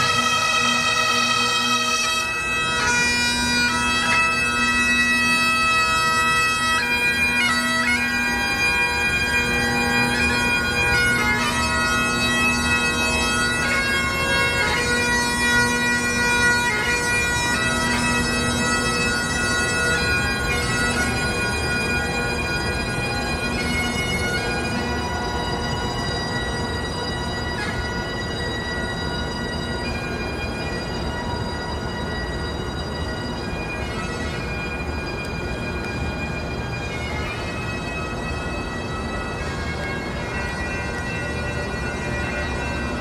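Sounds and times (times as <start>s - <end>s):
bagpipes playing slow tune: 0.0s - 43.0s.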